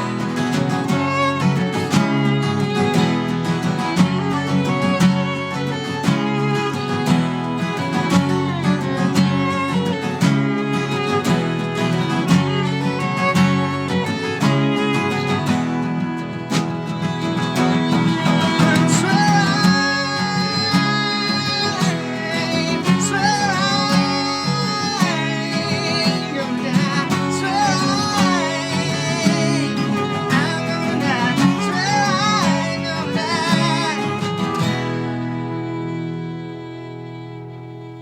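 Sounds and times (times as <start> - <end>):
guitar: 0.0 - 38.0
violin melody with vibrato: 0.0 - 38.0.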